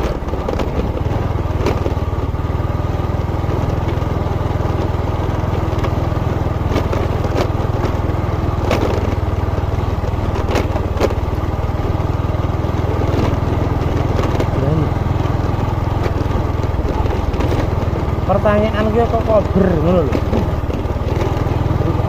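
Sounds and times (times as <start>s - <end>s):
sharp clicks and knocks: 0.0s - 2.2s, 3.4s - 22.0s
small motorcycle engine running: 0.0s - 22.0s.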